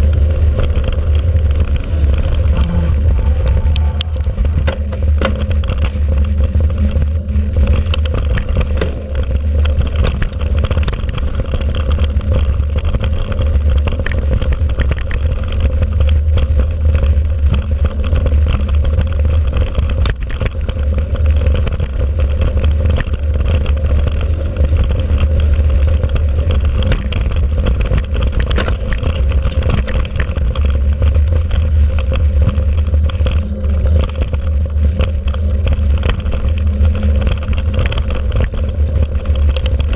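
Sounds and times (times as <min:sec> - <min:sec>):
bike rattling over rough ground: 0:00.0 - 0:39.9
wind rumble on microphone: 0:00.0 - 0:39.9.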